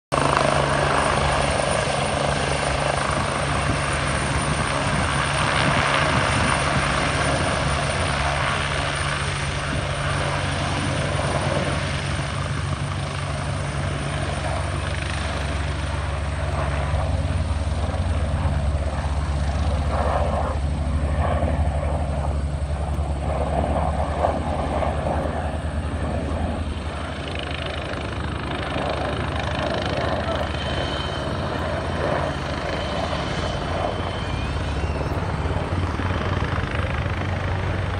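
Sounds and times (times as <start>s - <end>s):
helicopter rotor thrum: 0.2s - 37.9s.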